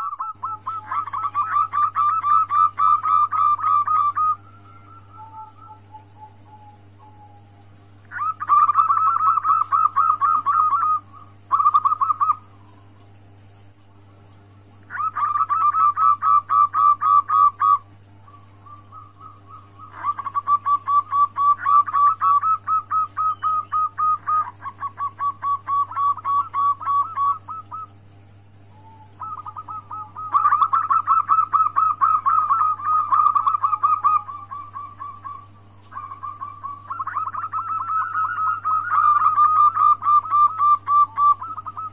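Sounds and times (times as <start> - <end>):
dove cooing in staccato notes: 0.0 - 13.2, 14.0 - 41.9.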